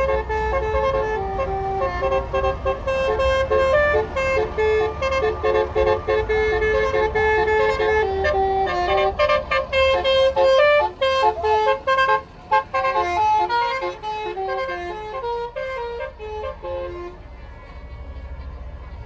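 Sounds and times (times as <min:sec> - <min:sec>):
musical air horn tune: 0:00.0 - 0:17.6.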